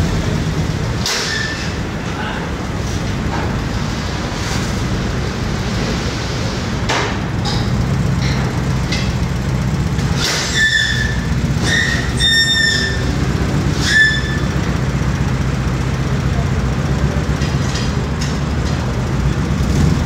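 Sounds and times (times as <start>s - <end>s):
brakes squealing: 0.0s - 20.0s
van engine running at low revs: 0.0s - 20.0s.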